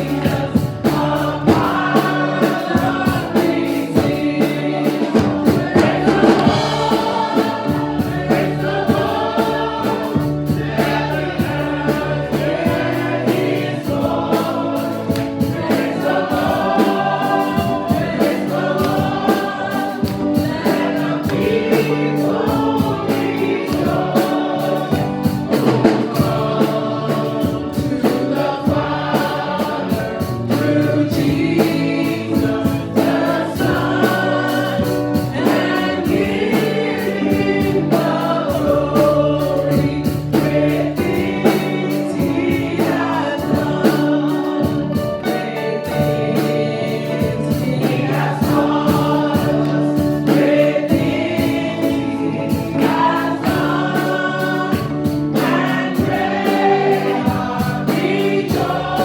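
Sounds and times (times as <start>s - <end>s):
bass line: 0.0s - 59.0s
choir singing gospel: 0.0s - 59.0s
drum beat: 0.0s - 59.0s.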